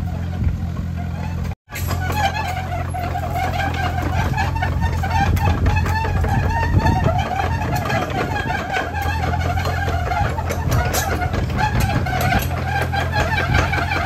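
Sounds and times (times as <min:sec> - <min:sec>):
excavator diesel engine running: 0:00.0 - 0:14.0
scattered metal clanks: 0:00.3 - 0:14.0.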